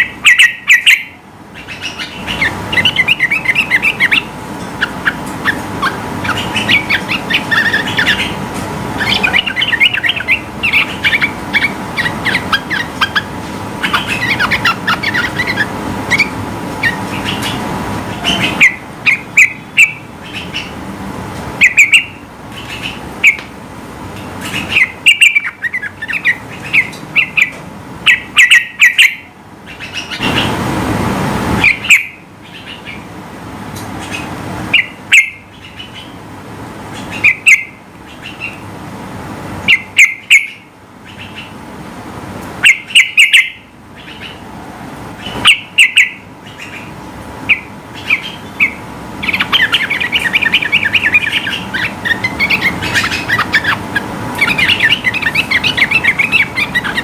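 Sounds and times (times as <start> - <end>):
bird chattering chirps: 0.0 - 8.4, 9.0 - 20.8, 21.6 - 23.5, 24.3 - 30.6, 31.6 - 33.1, 33.8 - 36.2, 36.9 - 38.6, 39.7 - 41.6, 42.6 - 44.4, 45.2 - 57.0
low background noise: 0.0 - 57.0.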